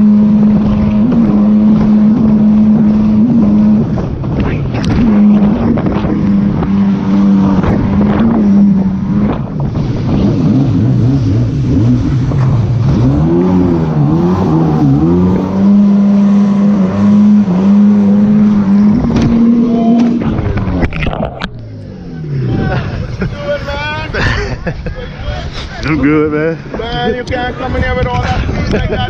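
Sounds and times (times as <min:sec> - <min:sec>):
jet ski engine revving: 0:00.0 - 0:23.8
rushing wind and spray: 0:00.0 - 0:29.0.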